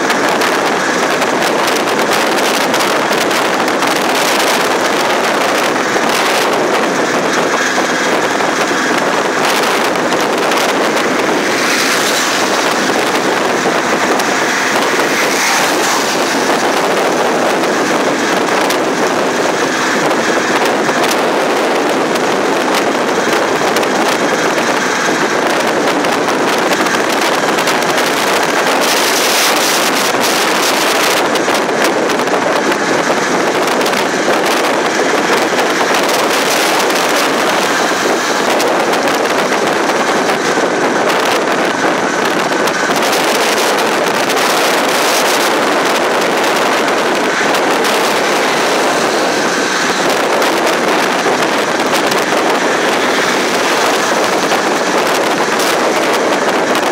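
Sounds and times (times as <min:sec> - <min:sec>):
wind buffeting microphone: 0:00.0 - 0:56.9
small engine running: 0:00.1 - 0:56.9.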